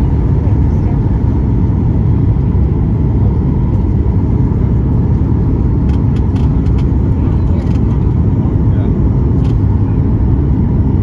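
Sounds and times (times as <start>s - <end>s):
aircraft engines roaring: 0.0s - 11.0s.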